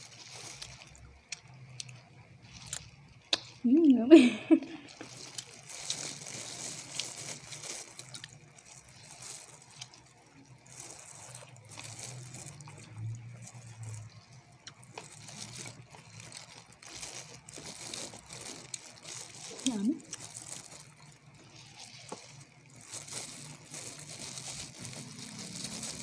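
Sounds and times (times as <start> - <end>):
plastic glove crinkling: 0.0 - 26.0
chewing chicken wings: 4.7 - 26.0.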